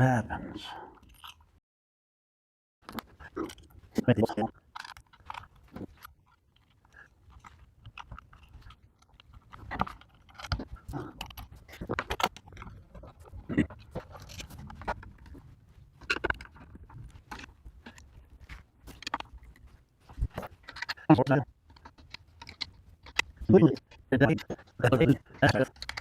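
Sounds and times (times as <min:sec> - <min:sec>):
router parts clicking and scraping: 0:01.0 - 0:01.5, 0:02.9 - 0:26.0.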